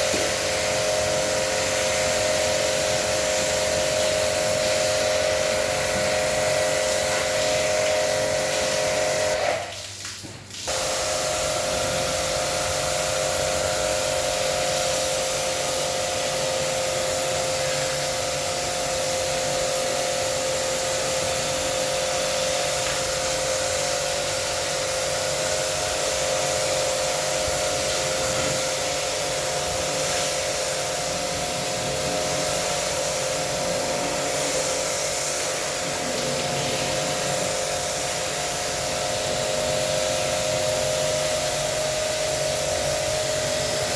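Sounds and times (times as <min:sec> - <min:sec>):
small electric motor whining: 0:00.0 - 0:09.7, 0:10.7 - 0:43.9.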